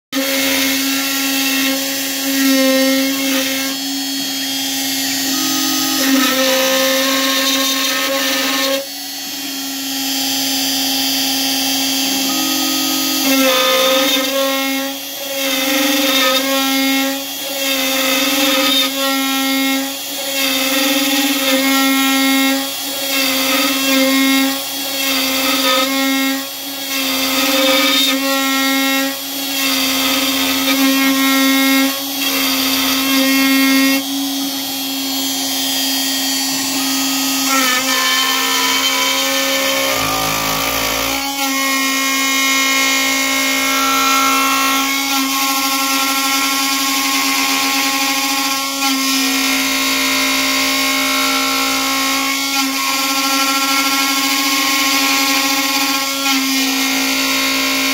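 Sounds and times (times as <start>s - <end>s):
cnc router spindle whining: 0.2s - 57.9s
end mill cutting wood: 0.2s - 57.9s.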